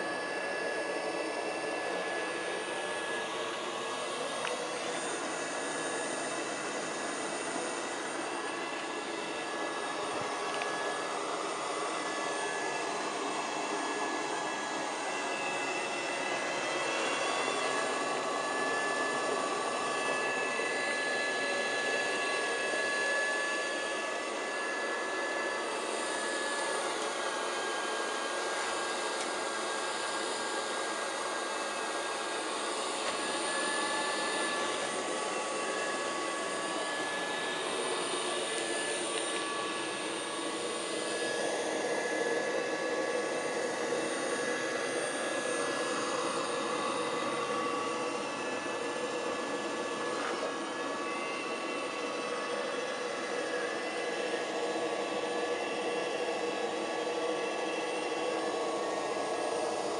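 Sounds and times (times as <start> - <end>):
robot vacuum cleaner whining: 0.0 - 59.9.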